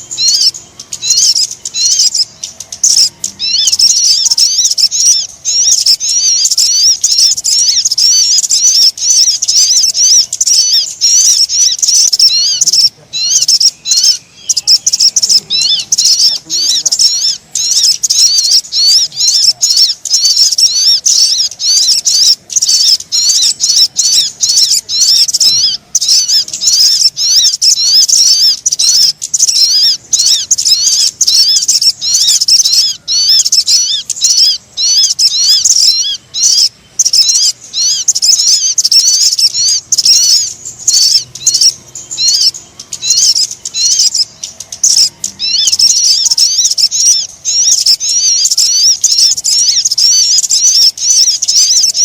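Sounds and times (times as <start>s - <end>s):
bird chirps and trills: 0.0s - 52.0s.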